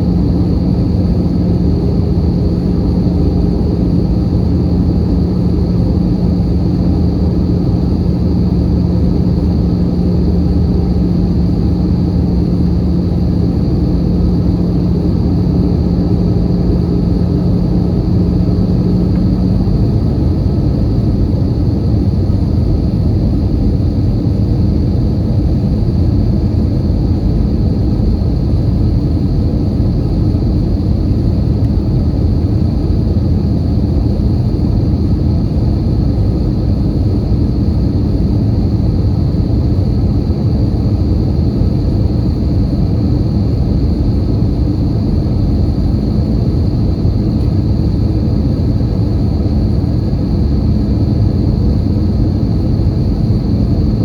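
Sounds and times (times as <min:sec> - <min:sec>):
airplane cabin engine noise: 0:00.0 - 0:54.0
low steady hum: 0:00.0 - 0:54.0.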